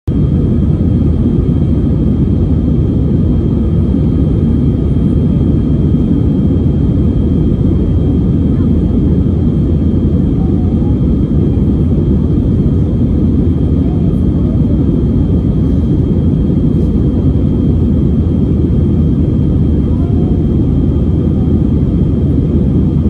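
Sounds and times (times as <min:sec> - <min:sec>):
airliner engine and airflow rumble: 0:00.1 - 0:23.0.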